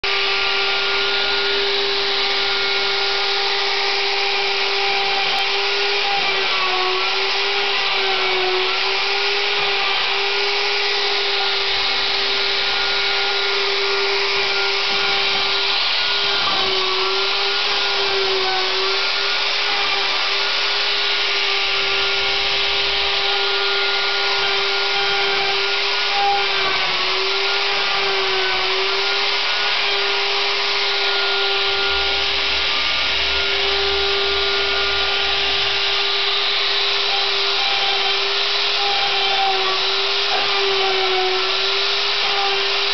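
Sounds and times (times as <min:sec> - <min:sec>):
router spindle whining: 0:00.0 - 0:42.9.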